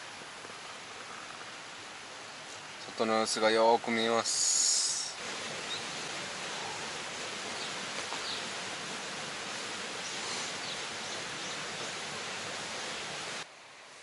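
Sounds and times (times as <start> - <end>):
rushing forest ambience: 0.0 - 14.0.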